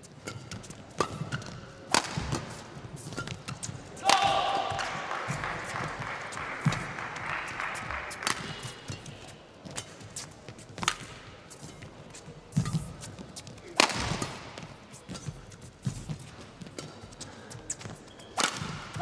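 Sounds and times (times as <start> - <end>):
rackets hitting shuttlecock: 0.1 - 19.0.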